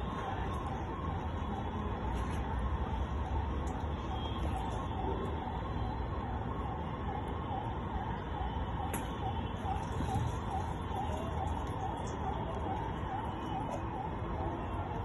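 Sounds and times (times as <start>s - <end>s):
warbling siren-like tone: 0.0s - 15.0s.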